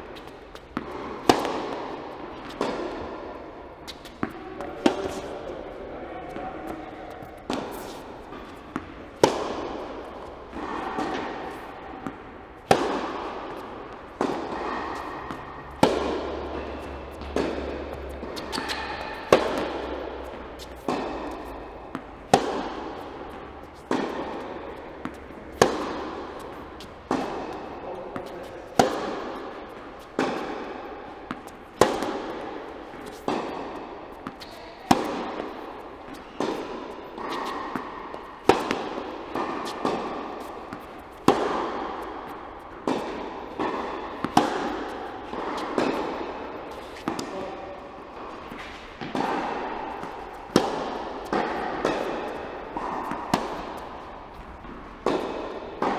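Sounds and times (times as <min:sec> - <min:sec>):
tennis balls struck by racquets: 0:00.0 - 0:55.9.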